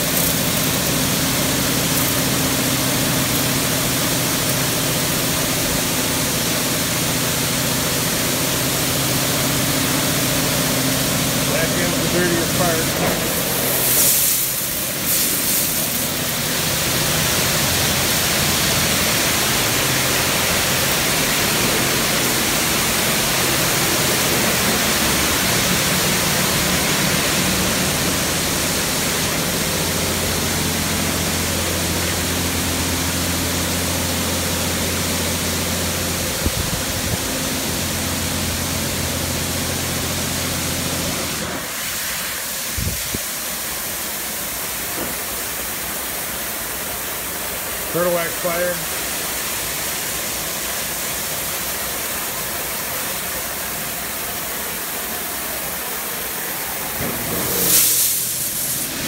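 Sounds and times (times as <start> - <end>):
high-pressure water spray: 0.0 - 59.0.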